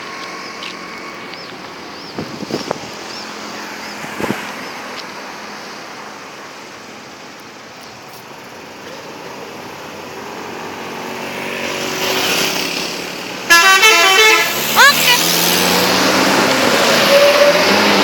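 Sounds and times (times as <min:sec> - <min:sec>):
vehicle approaching: 0:00.0 - 0:18.0
vehicle engines running: 0:00.0 - 0:18.0.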